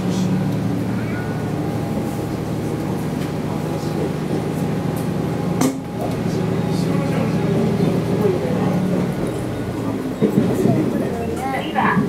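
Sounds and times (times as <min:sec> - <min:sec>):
railcar engine hum: 0:00.0 - 0:12.0.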